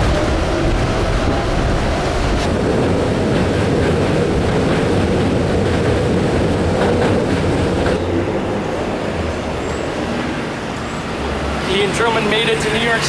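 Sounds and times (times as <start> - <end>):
moving vehicle rumbling: 0.0 - 13.0.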